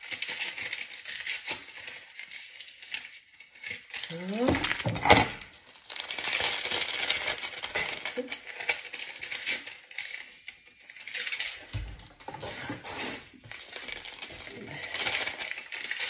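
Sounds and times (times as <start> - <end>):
paper sachets crinkling: 0.0 - 16.0
kitchen items clinking: 2.8 - 16.0.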